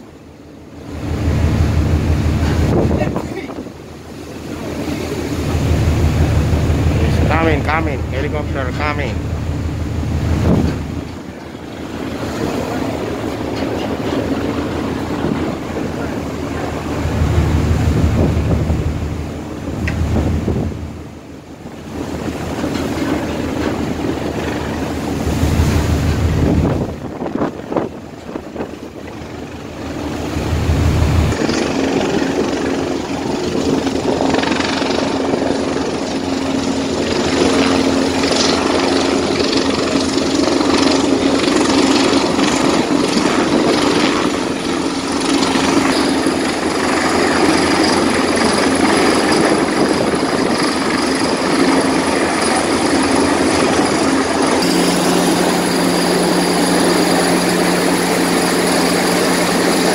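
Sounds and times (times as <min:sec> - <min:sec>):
helicopter rotor and turbine noise: 0:00.0 - 0:59.9.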